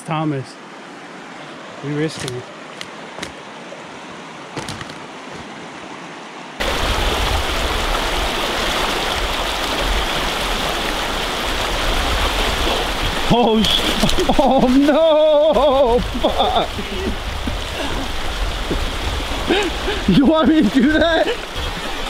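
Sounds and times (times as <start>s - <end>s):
river rushing over rocks: 0.8s - 22.0s.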